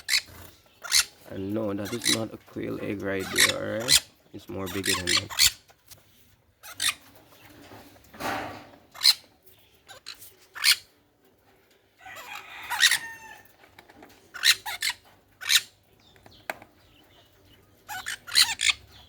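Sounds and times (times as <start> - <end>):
quail and parrots calling: 0.0 - 5.8, 6.5 - 11.0, 12.0 - 19.0.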